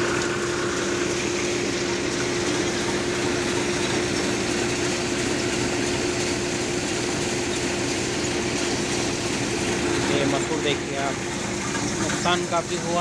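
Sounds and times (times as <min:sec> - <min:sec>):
threshing machine droning: 0:00.0 - 0:13.0.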